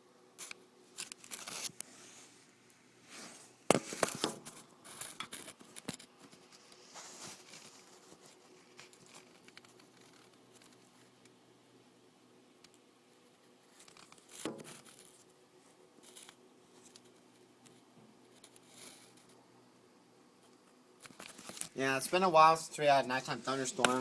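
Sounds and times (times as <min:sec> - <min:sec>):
rustling and crinkling: 0:00.4 - 0:11.3, 0:12.6 - 0:19.4, 0:20.4 - 0:22.4, 0:23.0 - 0:24.0.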